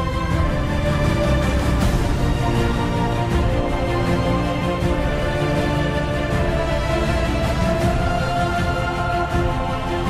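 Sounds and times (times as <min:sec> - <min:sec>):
background music sustained tones: 0:00.0 - 0:10.0.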